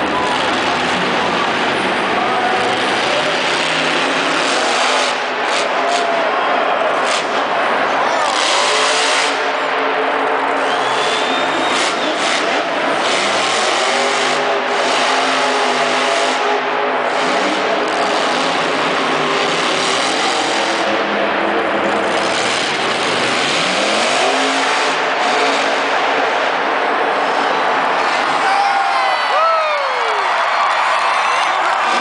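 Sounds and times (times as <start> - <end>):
monster truck engine revving: 0.0 - 28.7, 29.3 - 32.0.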